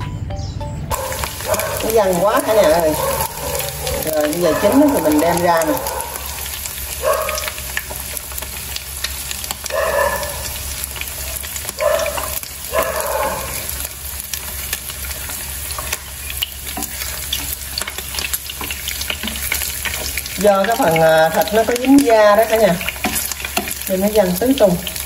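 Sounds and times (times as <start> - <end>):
pork frying in hot oil: 0.9 - 25.0
utensil moving food in pan: 0.9 - 25.0.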